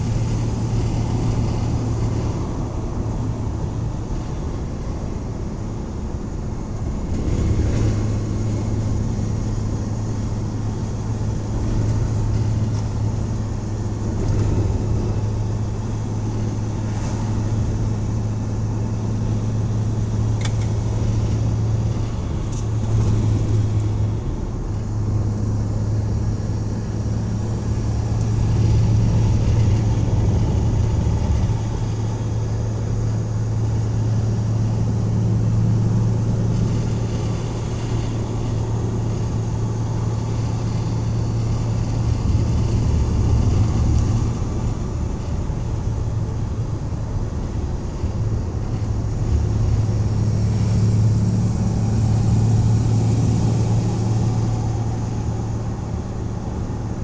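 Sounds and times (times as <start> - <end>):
road noise: 0.0 - 57.0
van engine droning under load: 0.0 - 57.0.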